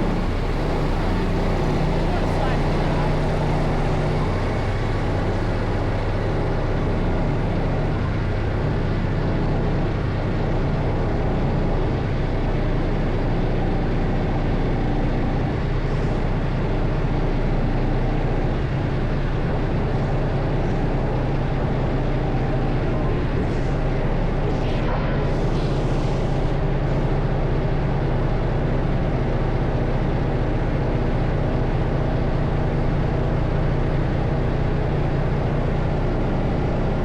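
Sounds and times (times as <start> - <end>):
truck diesel engine droning: 0.0 - 37.0.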